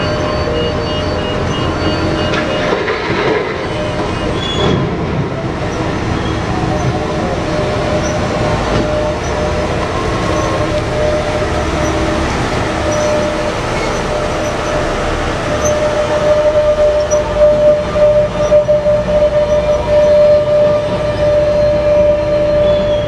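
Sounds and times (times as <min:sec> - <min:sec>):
high whine: 0:00.0 - 0:23.0
large vehicle engine rumble: 0:00.0 - 0:23.0.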